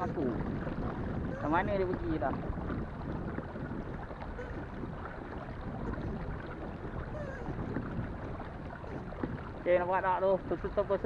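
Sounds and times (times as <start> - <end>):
water lapping against kayak hull: 0.0 - 11.0
wind noise on microphone: 0.0 - 11.0.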